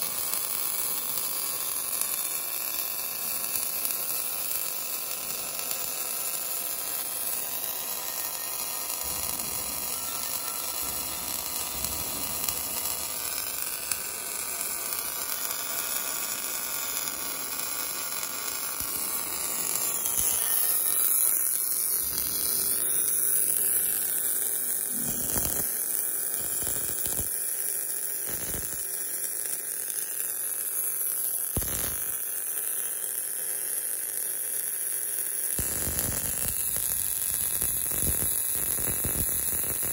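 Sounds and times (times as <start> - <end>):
short welding pops: 0.0 - 32.8, 34.9 - 39.9
welding arc hiss and crackle: 0.0 - 39.9.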